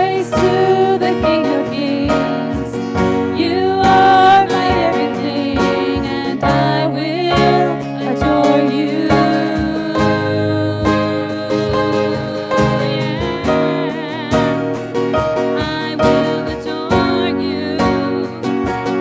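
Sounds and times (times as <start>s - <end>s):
acoustic guitar with steady beat: 0.0s - 19.0s
person singing: 0.0s - 19.0s.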